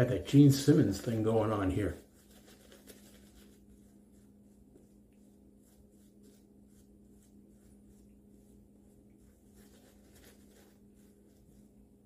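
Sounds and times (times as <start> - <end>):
steady low hum: 0.0 - 12.0
shaving brush swishing: 0.3 - 12.0.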